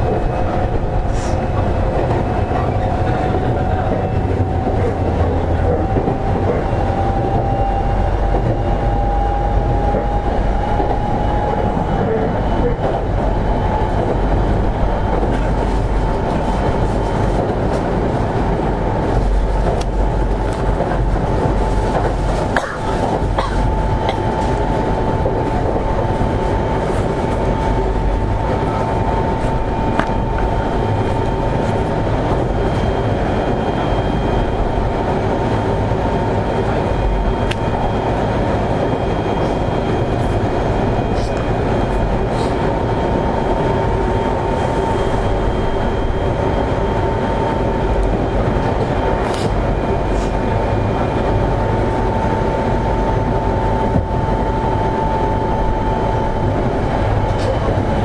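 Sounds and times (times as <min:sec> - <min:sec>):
steady train hum: 0:00.0 - 0:58.0
train wheels rumbling on rails: 0:00.0 - 0:58.0.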